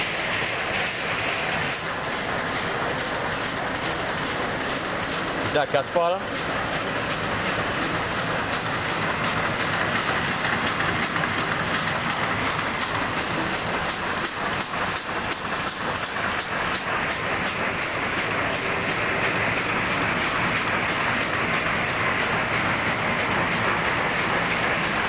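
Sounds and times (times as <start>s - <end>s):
engine running at full throttle: 0.0s - 25.0s.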